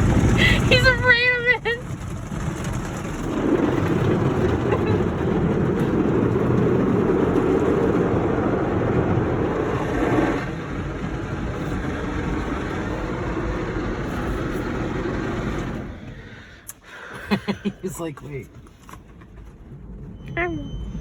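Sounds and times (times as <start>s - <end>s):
car wash rushing noise: 0.0s - 20.2s.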